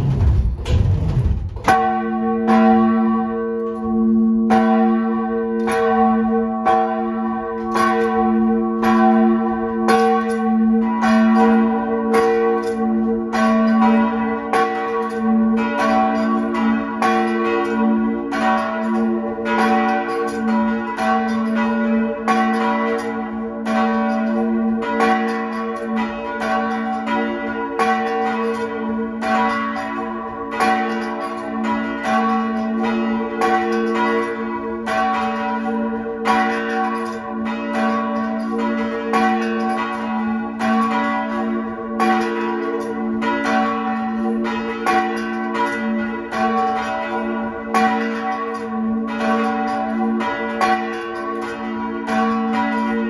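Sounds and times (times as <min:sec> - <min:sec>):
church bells pealing: 0:01.7 - 0:53.0.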